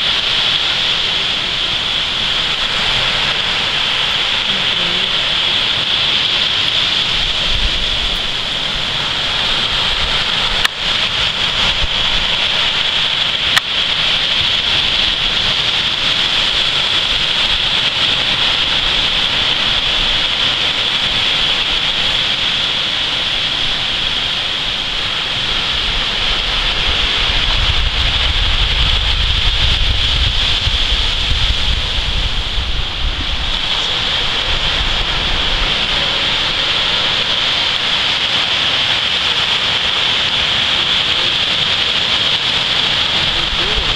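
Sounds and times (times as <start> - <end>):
high-pitched hiss: 0.0 - 43.9
surf on a sandy beach: 0.0 - 43.9
wind rumble on microphone: 0.0 - 43.9.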